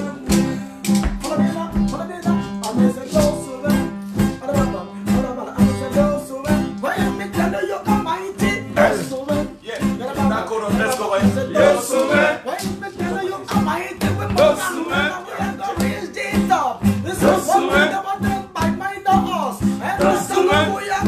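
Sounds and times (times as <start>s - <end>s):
man rapping over a beat: 0.0s - 21.0s.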